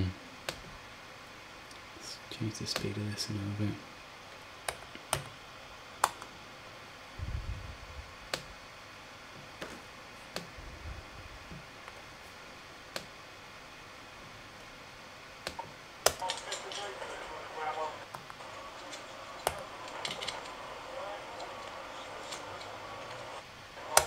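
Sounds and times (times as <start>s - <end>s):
laptop fan hiss: 0.0s - 24.0s.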